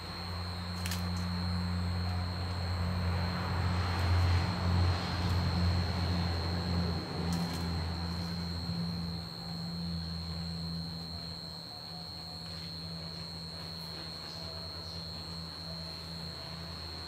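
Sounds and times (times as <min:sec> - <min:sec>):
low electrical hum: 0:00.0 - 0:17.0
thin high-pitched whine: 0:00.0 - 0:17.0.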